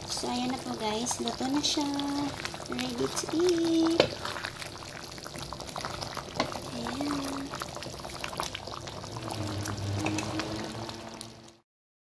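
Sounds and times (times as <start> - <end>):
curry sauce bubbling in a pan: 0.0 - 11.6.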